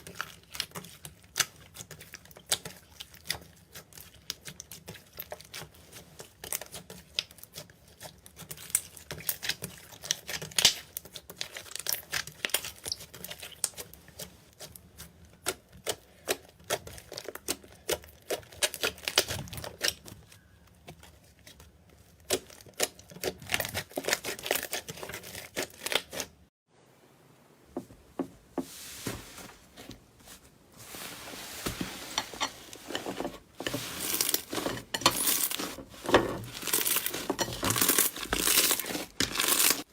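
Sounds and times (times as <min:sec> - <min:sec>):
soft steady crackle: 0:00.0 - 0:39.9.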